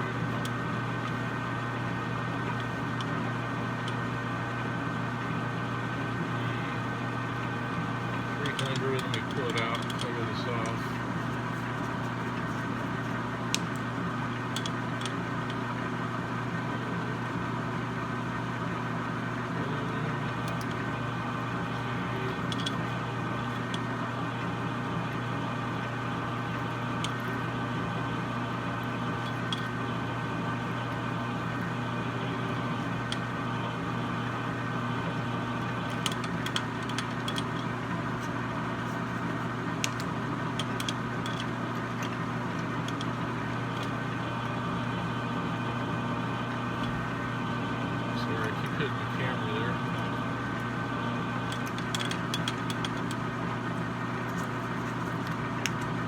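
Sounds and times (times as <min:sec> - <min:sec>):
metal lathe humming: 0:00.0 - 0:56.0.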